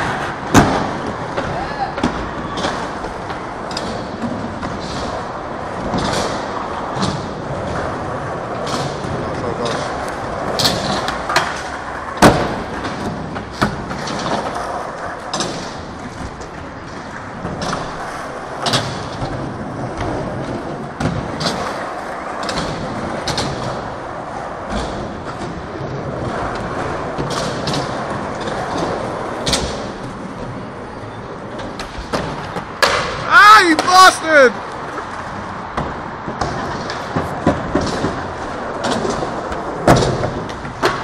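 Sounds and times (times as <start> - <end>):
skateboard clacks and thuds: 0.0 - 41.0
skateboards rolling on concrete: 0.0 - 41.0.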